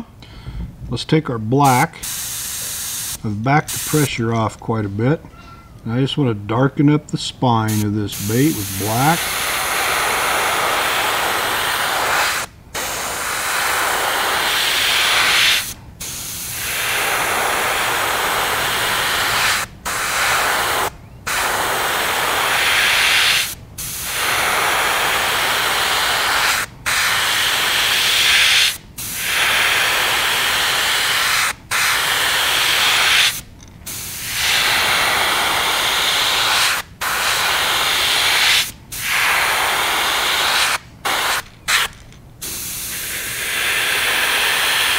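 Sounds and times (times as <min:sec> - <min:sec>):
airbrush hissing: 0:01.6 - 0:04.1, 0:07.7 - 0:44.9.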